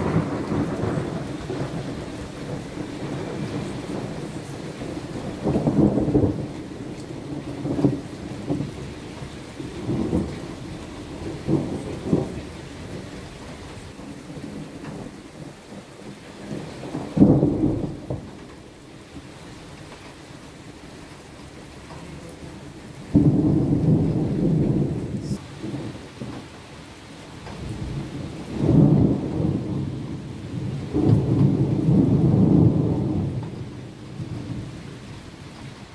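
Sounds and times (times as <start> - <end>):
thunder rumbles: 0.0 - 20.1, 20.8 - 26.7, 27.4 - 35.9
rain hissing: 0.0 - 35.9.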